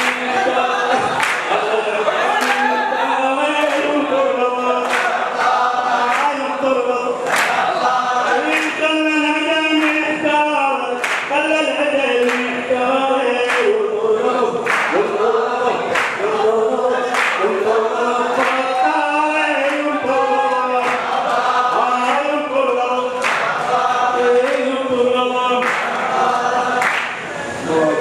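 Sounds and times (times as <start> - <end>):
men chanting together: 0.0 - 28.0.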